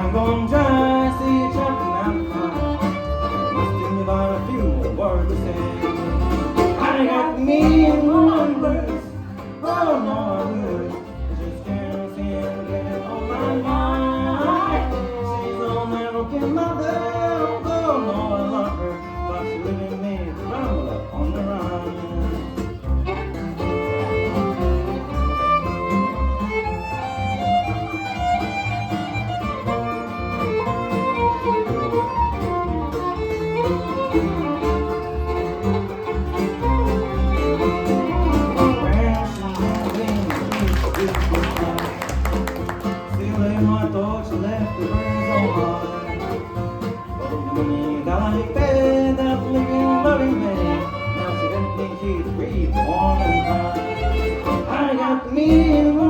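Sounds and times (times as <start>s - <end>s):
fiddle: 0.0s - 56.0s
guitar: 0.0s - 56.0s.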